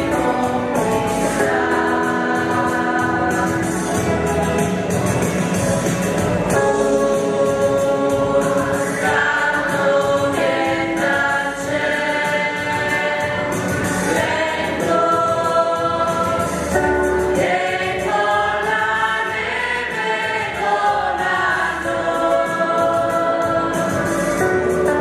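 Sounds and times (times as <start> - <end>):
mixed choir singing in harmony: 0.0 - 25.0.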